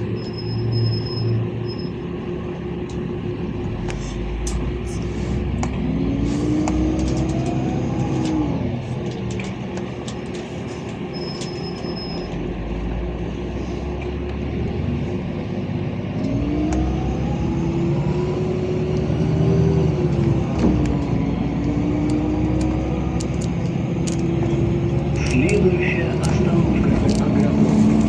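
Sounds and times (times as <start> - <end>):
bus engine rumble with whine: 0.0 - 28.0.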